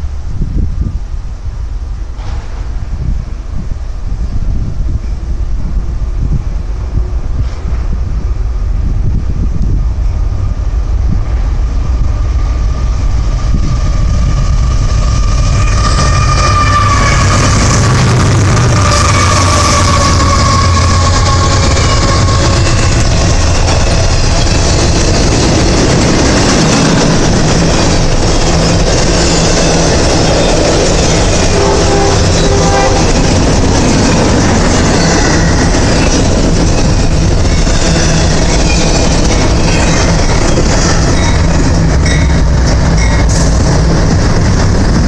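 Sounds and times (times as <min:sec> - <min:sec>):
diesel locomotive rumble: 0:00.0 - 0:45.0
freight cars rolling on rails: 0:00.0 - 0:45.0
high locomotive whine: 0:00.0 - 0:45.0.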